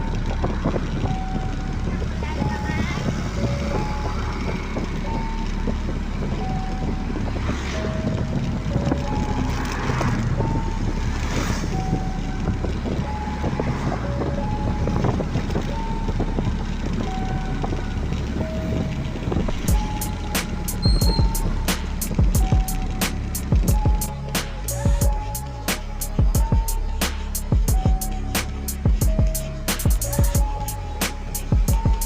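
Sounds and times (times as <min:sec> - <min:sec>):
beeping tune: 0:00.0 - 0:32.0
truck diesel engine rumbling: 0:00.0 - 0:32.0.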